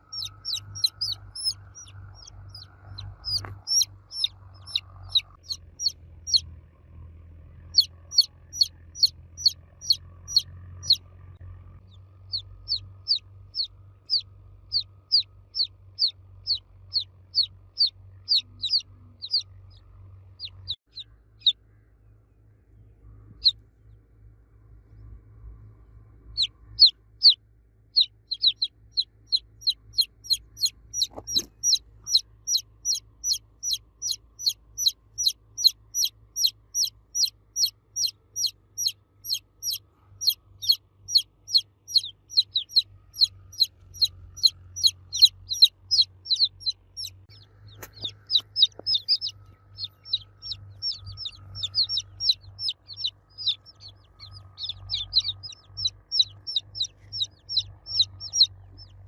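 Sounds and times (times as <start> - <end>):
chick cheeping: 0.0 - 6.5, 7.8 - 11.0, 12.3 - 21.6, 26.4 - 27.4, 28.0 - 59.0.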